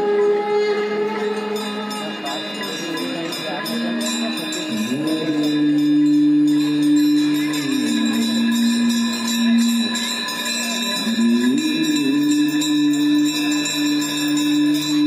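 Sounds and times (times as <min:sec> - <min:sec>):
bells ringing: 0:00.0 - 0:15.0
devotional music long held note: 0:00.0 - 0:15.0.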